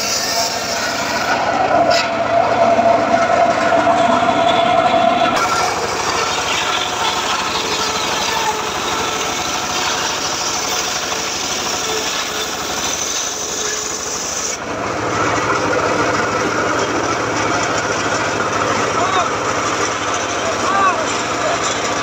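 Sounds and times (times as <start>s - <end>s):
circular saw cutting wood: 0.0s - 22.0s
diesel engine running: 0.0s - 22.0s.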